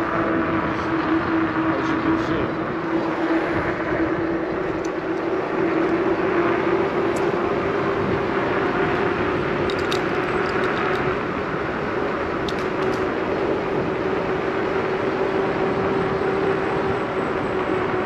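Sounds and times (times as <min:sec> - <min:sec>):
bicycle rolling on pavement: 0:00.0 - 0:18.0
constant low hum: 0:00.0 - 0:18.0
wind on microphone: 0:00.0 - 0:18.0.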